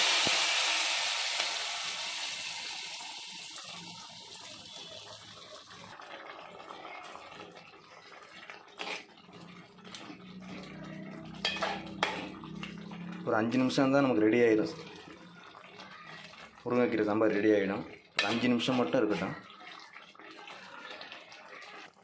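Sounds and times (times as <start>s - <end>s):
hot oil sizzling: 0.0s - 19.7s.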